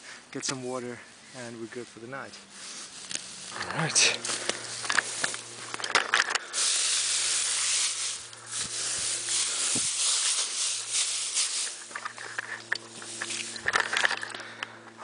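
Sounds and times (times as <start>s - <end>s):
dry grass rustling: 0.0s - 15.0s
light crackles: 0.4s - 15.0s.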